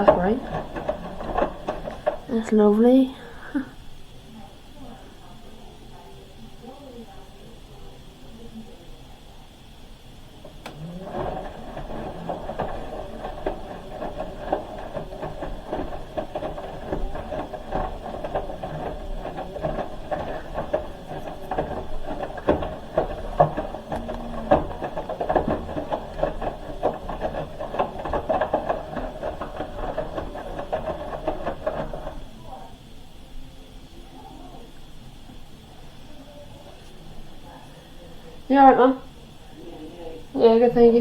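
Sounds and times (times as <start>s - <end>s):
washing machine drum rattling: 0.0s - 4.2s, 9.9s - 41.0s.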